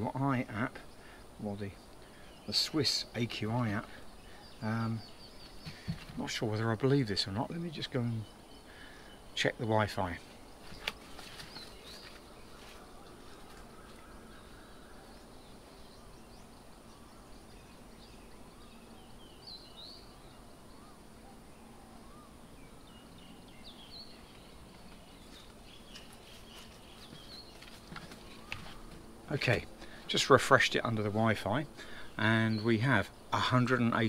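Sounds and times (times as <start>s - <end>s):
distant bird chirps: 0.0s - 34.0s.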